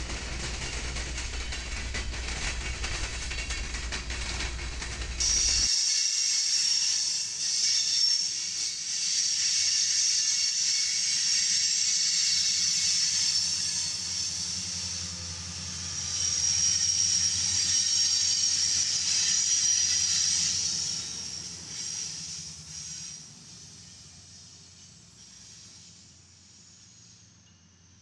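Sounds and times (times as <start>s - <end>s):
diesel locomotive engine drone: 0.0s - 5.7s, 6.3s - 28.0s
freight cars rolling on rails: 0.0s - 5.7s, 9.9s - 26.7s.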